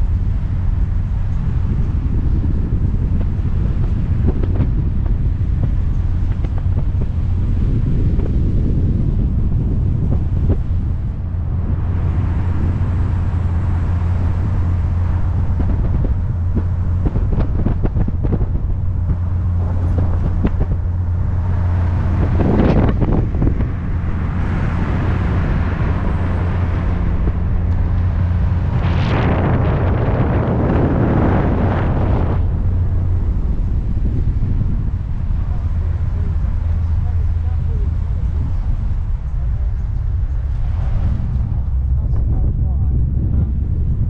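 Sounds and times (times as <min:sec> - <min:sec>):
car engine drone: 0:00.0 - 0:44.0
wind rushing over microphone: 0:00.0 - 0:44.0.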